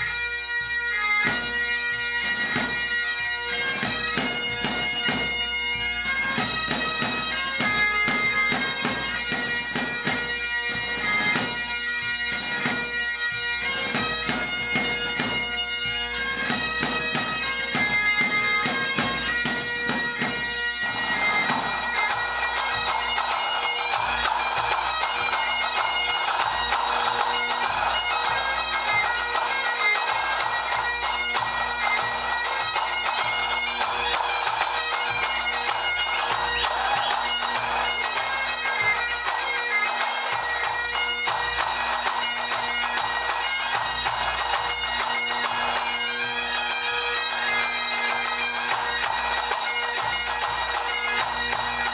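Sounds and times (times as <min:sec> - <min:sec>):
bagpipe melody over drone: 0:00.0 - 0:51.9.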